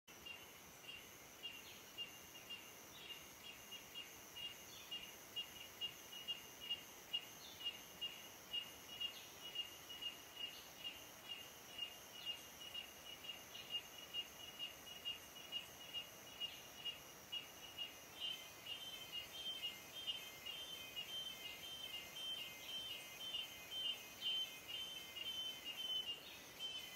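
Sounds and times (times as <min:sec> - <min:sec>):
constant high insect buzz: 0:00.1 - 0:26.9.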